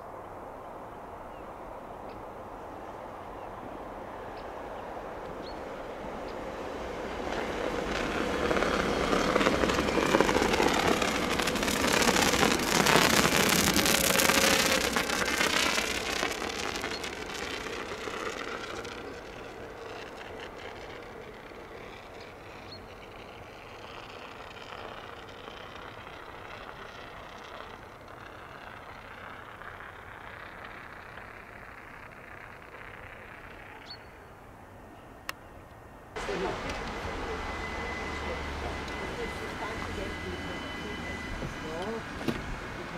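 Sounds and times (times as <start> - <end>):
electric train passing: 2.2 - 34.9, 35.8 - 42.9.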